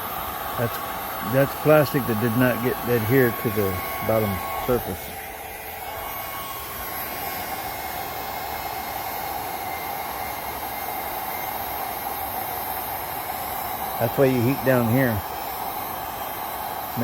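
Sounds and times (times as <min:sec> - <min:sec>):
heat gun blowing hiss: 0:00.0 - 0:17.0.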